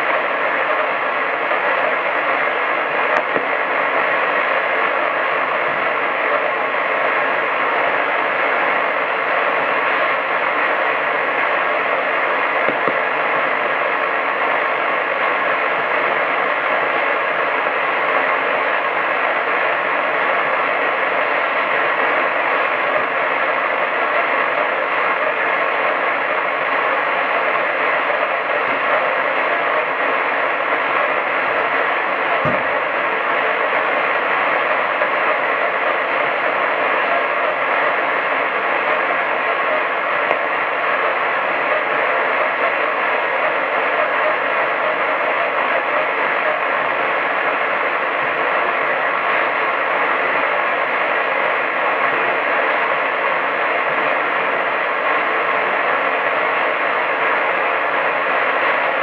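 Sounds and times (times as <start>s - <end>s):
radio static hiss: 0.0s - 59.0s.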